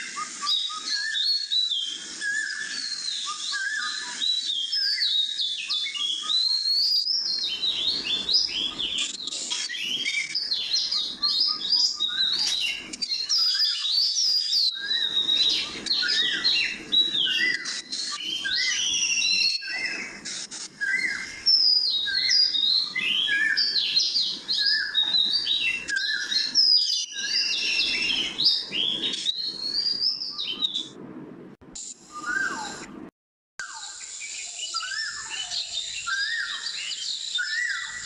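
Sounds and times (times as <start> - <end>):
songbirds chirping: 0.0 - 31.0, 33.6 - 38.0.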